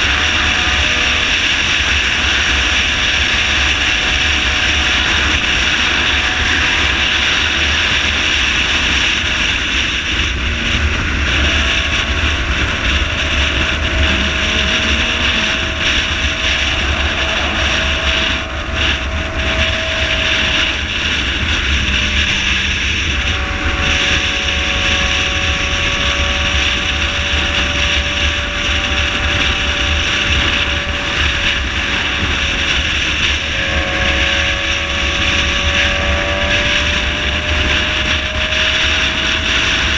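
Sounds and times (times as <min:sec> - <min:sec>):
motorcycle engine humming: 0:00.0 - 0:39.9
wind rushing over microphone: 0:00.0 - 0:39.9.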